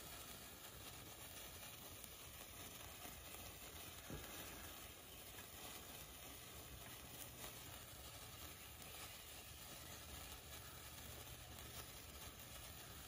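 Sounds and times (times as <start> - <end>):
sparkler crackling sizzle: 0.0 - 13.0.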